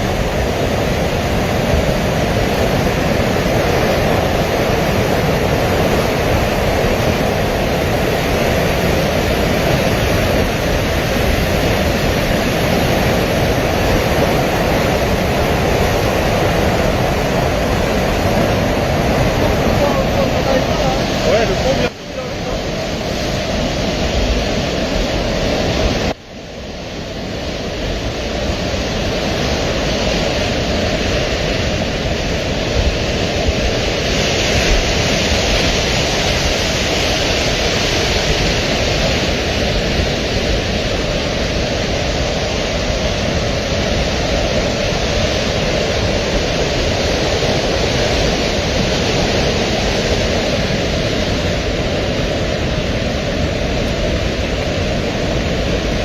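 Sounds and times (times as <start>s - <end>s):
river rushing roar: 0.0s - 56.0s.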